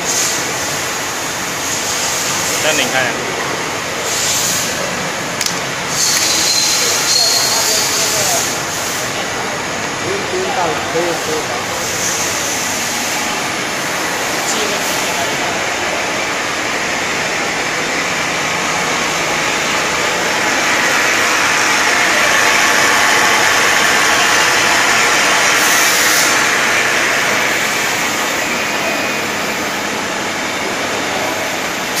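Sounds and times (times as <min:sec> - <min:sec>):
bottling line mechanical rushing: 0:00.0 - 0:32.0.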